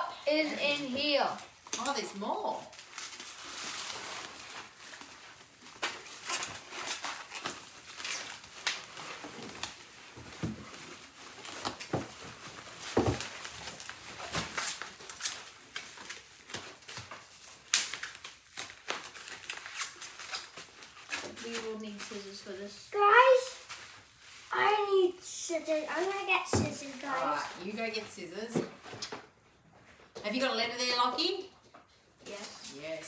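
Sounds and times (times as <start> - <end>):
bubble wrap crinkling: 0.1 - 28.2.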